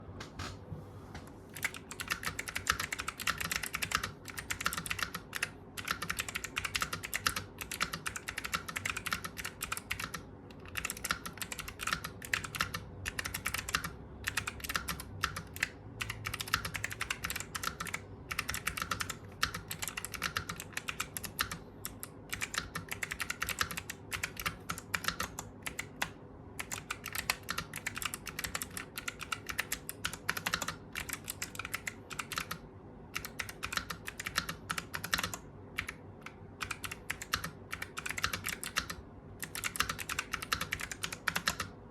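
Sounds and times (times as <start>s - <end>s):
faint steady hum: 0.0s - 41.9s
mechanical keyboard typing: 1.5s - 41.8s.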